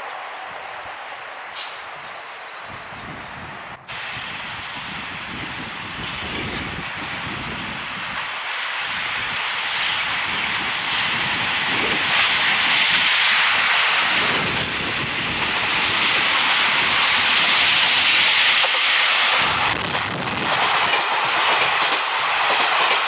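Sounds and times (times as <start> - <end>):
diesel train engine rushing: 0.0 - 23.0.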